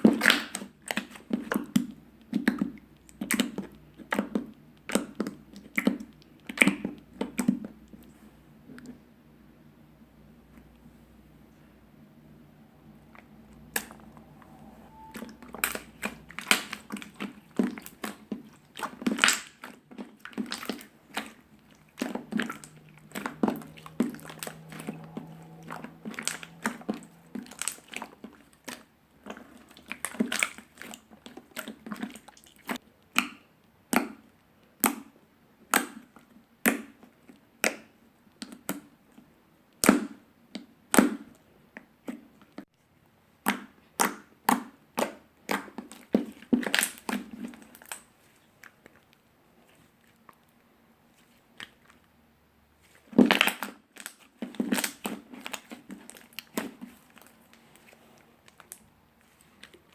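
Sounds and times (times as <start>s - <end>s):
slime being kneaded: 0.0s - 9.0s, 13.0s - 42.6s, 43.3s - 50.4s, 52.8s - 59.9s.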